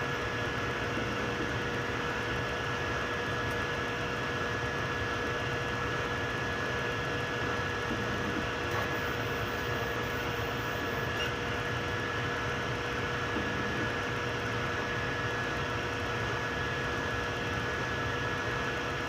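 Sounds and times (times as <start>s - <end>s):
cooling fans and motors whirring: 0.0s - 19.0s
thin constant whine: 0.0s - 19.0s.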